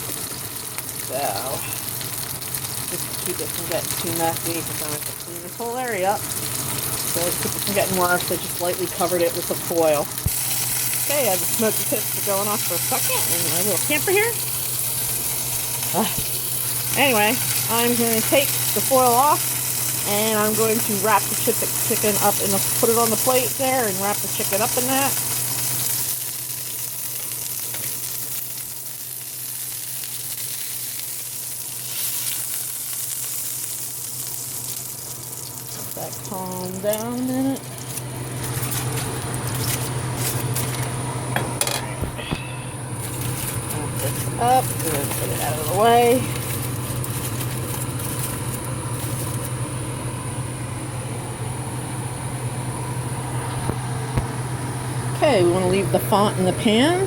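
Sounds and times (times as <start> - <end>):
low motor hum: 0.0 - 31.9, 32.5 - 57.0
meat sizzling in a frying pan: 0.0 - 41.8, 42.7 - 56.3
grease popping: 0.0 - 50.1, 53.4 - 54.6.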